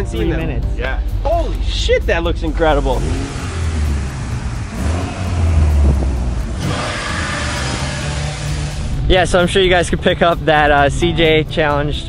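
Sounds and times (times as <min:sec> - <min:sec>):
car engine running: 0:00.3 - 0:11.1.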